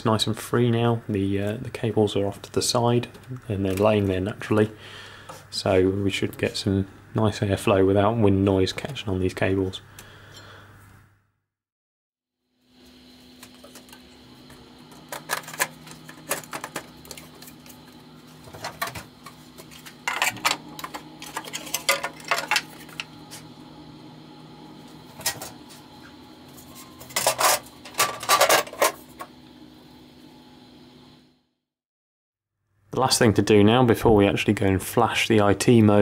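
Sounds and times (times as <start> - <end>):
faint steady hum: 0.0 - 11.2, 12.6 - 31.4.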